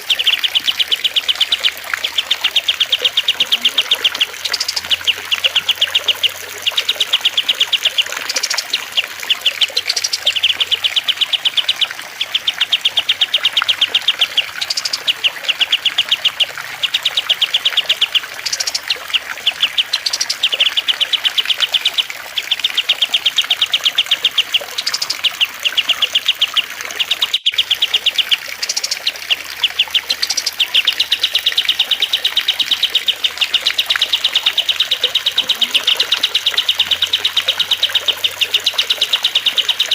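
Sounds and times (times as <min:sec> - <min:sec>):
faint trickle of water: 0:00.0 - 0:39.9
songbirds singing in dry trills: 0:00.0 - 0:39.9.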